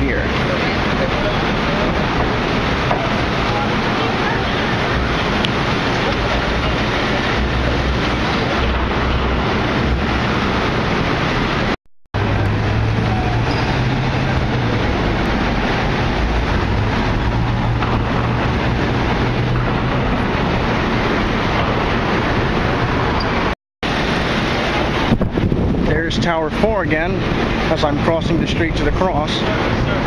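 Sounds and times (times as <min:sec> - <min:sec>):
city street traffic: 0:00.0 - 0:30.0
low engine hum: 0:00.0 - 0:30.0
wind rumbling on microphone: 0:00.0 - 0:30.0.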